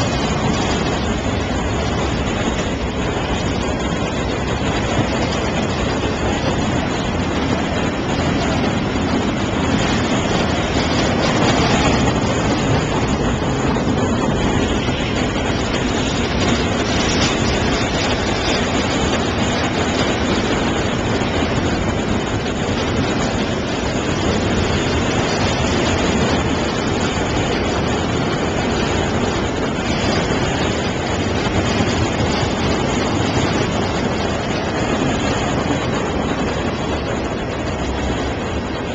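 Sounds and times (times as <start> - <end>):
freight train wheels rumbling on rail: 0.0 - 38.9.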